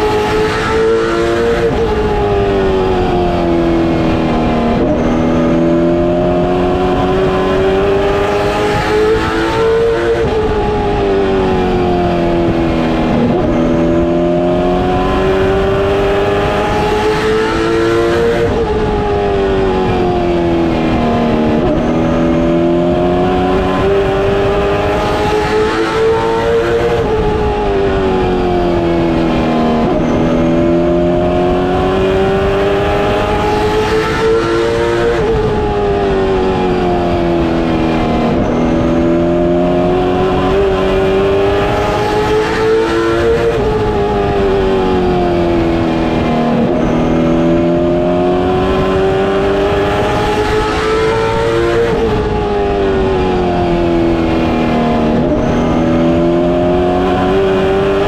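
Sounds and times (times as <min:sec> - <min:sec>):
race car engine at speed: 0:00.0 - 0:58.0.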